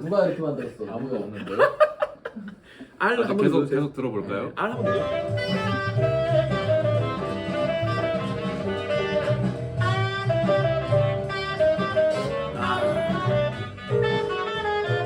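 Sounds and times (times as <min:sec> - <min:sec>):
small group jazz: 0:02.1 - 0:15.0.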